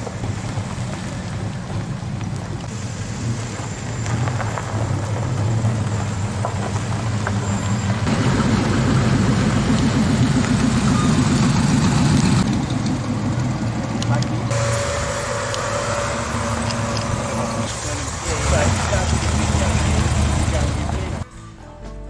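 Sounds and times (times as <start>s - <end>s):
car engine rumbling: 0.0s - 21.2s.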